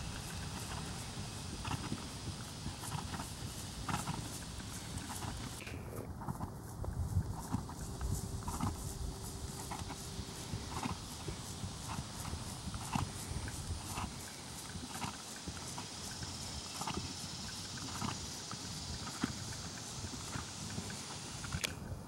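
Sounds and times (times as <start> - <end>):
hoofbeats on grass: 0.0 - 21.6.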